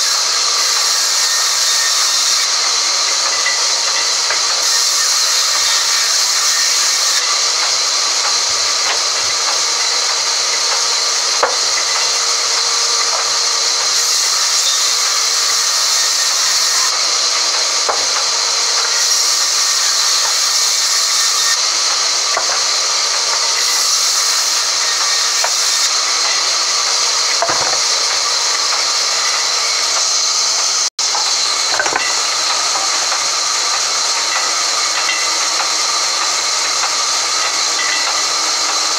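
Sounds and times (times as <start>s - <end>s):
band saw cutting timber: 0.0s - 38.9s.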